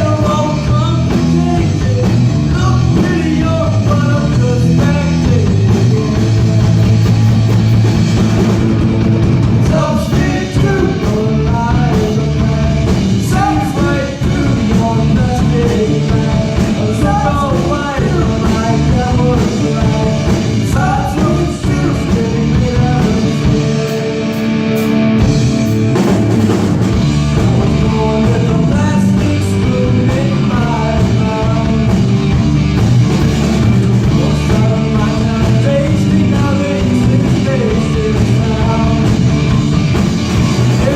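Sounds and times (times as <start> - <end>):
rock music with singing: 0.0 - 40.9.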